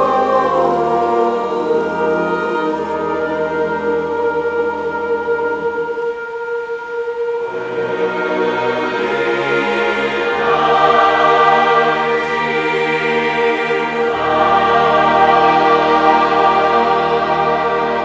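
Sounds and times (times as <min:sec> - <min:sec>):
choir singing with orchestra: 0:00.0 - 0:18.0.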